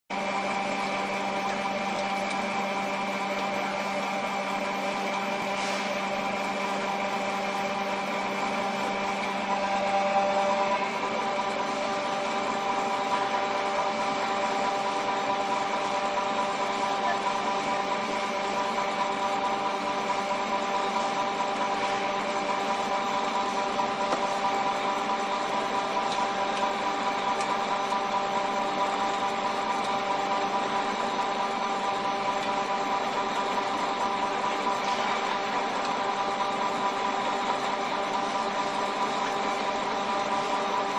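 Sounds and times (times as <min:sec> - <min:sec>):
pellet mill machine hum: 0:00.1 - 0:40.9.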